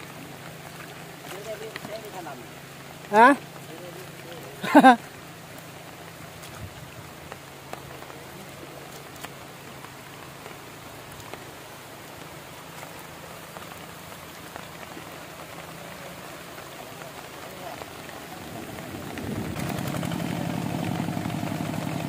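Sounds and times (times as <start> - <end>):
water drips: 0.0 - 22.0
water pattering: 0.0 - 22.0.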